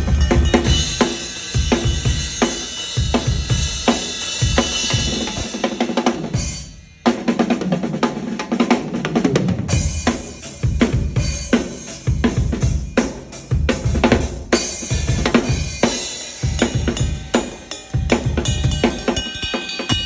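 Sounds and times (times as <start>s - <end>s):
drum kit playing: 0.0s - 20.0s.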